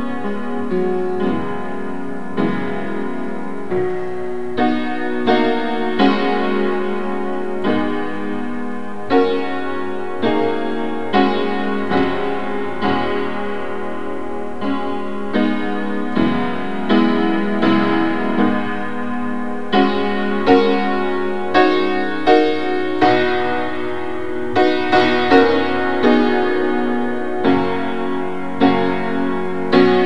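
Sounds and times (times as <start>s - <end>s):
piano chords ringing: 0.0s - 30.0s.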